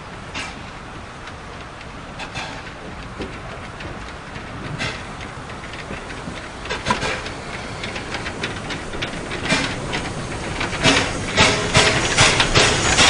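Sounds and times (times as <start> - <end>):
steady steam hiss: 0.0 - 13.0
steam locomotive exhaust chuffs: 0.0 - 13.0.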